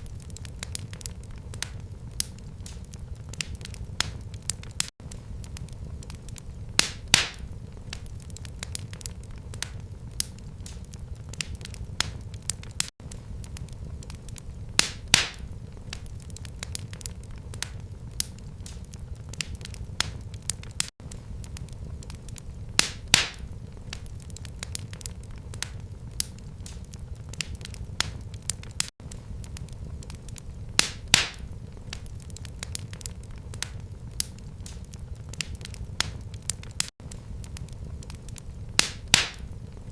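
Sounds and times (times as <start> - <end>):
sharp fire pops: 0.0 - 39.9
wood fire crackling: 0.0 - 39.9.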